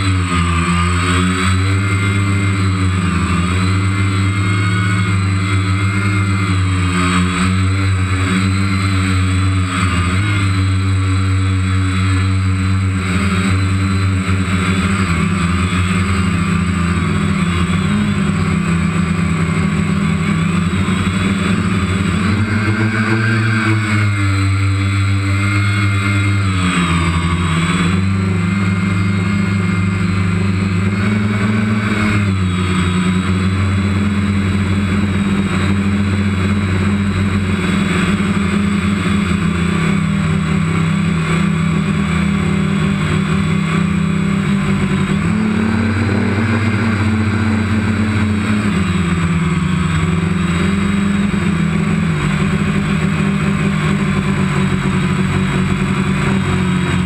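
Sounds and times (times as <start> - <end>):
drone propellers buzzing: 0.0 - 57.0.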